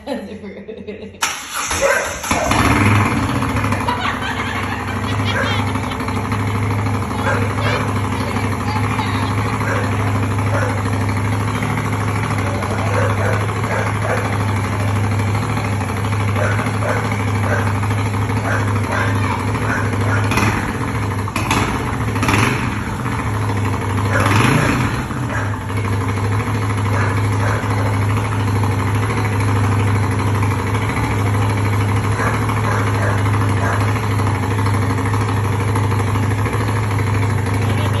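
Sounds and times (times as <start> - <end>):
engine throttle blips: 1.2 - 38.0
motorcycle engine idling: 1.4 - 38.0.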